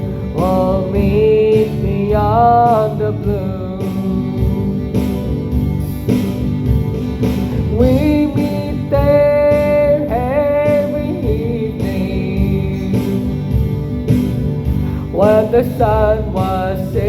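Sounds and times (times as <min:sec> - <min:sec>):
country music guitar instrumental: 0:00.0 - 0:17.0.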